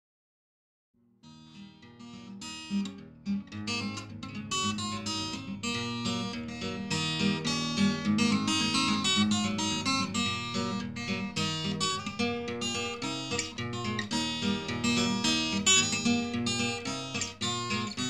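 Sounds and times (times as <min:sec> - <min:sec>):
acoustic guitar music: 0:01.2 - 0:18.0.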